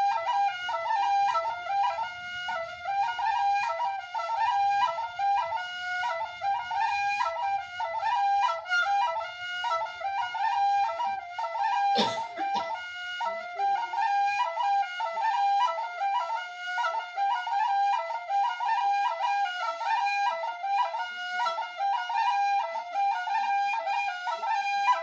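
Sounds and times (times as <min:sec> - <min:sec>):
flute playing quick melody: 0:00.0 - 0:25.0.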